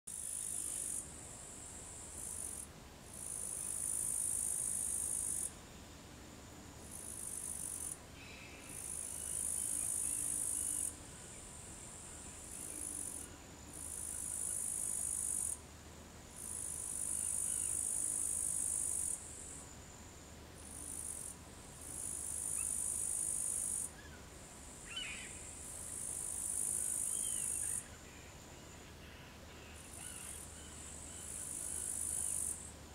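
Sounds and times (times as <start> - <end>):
bush-cricket buzzing stridulation: 0.1 - 5.5, 6.6 - 15.6, 16.4 - 29.0, 29.6 - 32.9.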